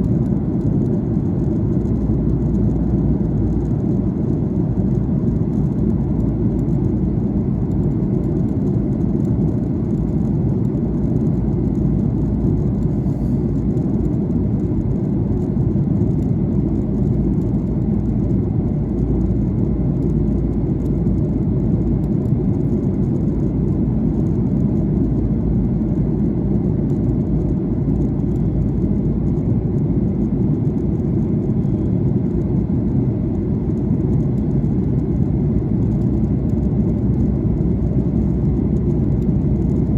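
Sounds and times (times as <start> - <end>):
airplane engines and airflow rumble: 0.0 - 39.9.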